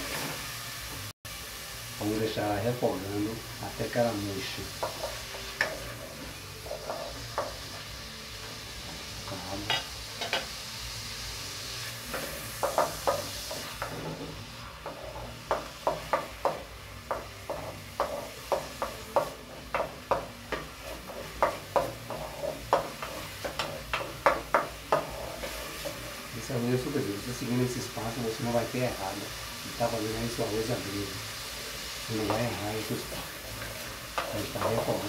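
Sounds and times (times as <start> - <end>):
faint sizzle: 0.0 - 35.0.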